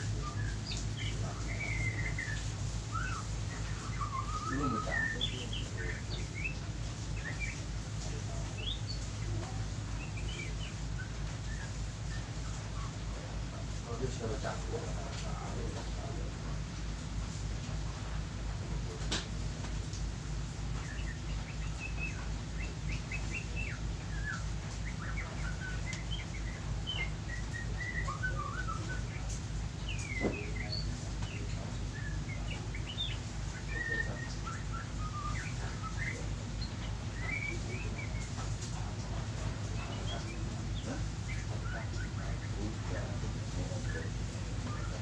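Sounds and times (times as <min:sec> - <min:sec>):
small birds chirping: 0:00.0 - 0:45.0
steady pulsing low hum: 0:00.0 - 0:45.0.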